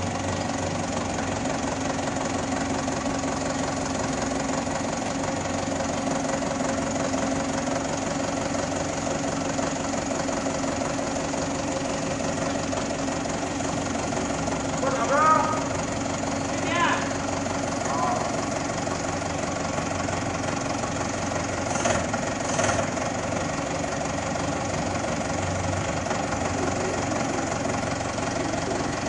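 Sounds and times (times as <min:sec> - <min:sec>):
forklift engine running: 0:00.0 - 0:29.0.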